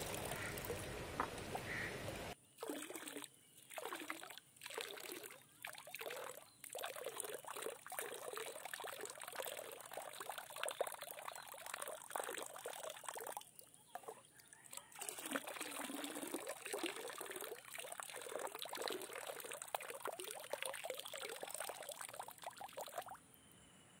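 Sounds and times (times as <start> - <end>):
water splashing and trickling: 0.0 - 23.2.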